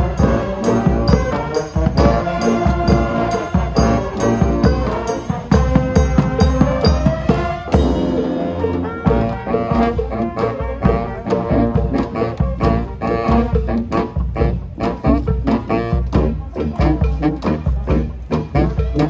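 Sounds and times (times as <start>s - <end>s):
brass band playing: 0.0s - 19.0s
sousaphones and horns: 0.0s - 19.0s
steady drum beat: 0.0s - 19.0s.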